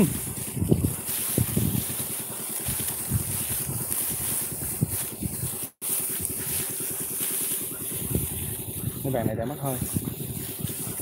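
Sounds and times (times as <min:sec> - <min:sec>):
wind buffeting microphone: 0:00.0 - 0:06.7, 0:07.6 - 0:11.0
dry straw rustling: 0:00.0 - 0:11.0.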